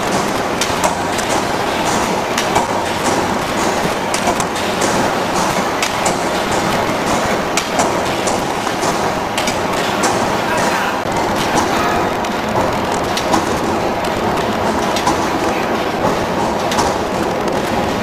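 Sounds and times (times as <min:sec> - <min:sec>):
machinery mechanical din: 0:00.0 - 0:18.0
sharp clacks and knocks: 0:00.0 - 0:18.0.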